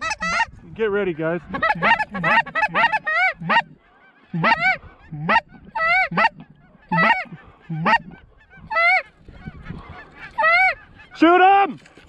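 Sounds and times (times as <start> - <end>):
geese honking: 0.0 - 0.5, 1.4 - 11.4.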